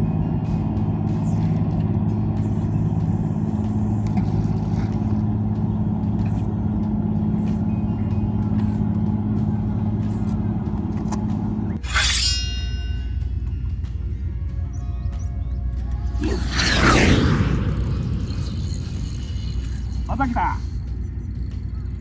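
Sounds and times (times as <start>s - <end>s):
engine running steadily: 0.0s - 11.8s, 12.6s - 22.0s.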